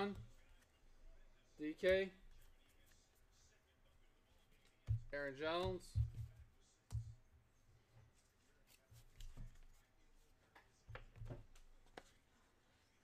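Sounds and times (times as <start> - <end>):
soft handling noises: 0.0 - 13.0.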